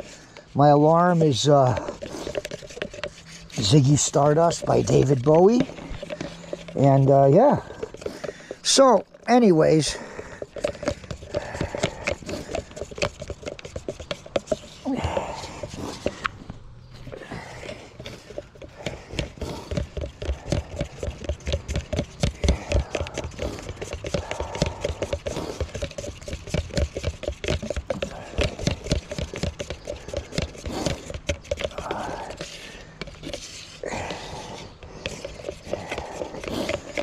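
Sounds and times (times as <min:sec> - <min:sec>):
stirring stick scraping a cup: 0:00.0 - 0:16.4, 0:17.0 - 0:37.0.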